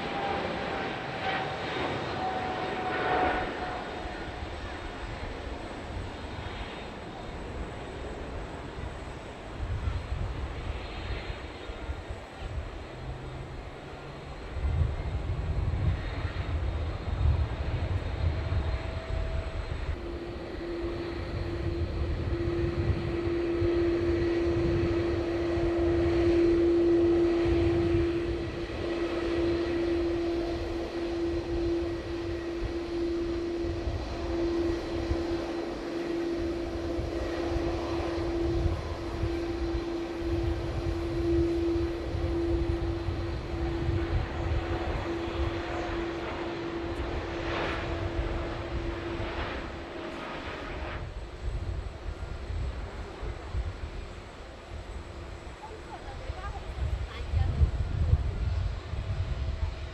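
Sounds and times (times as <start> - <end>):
jet airliner engines rumbling: 0.0 - 59.9.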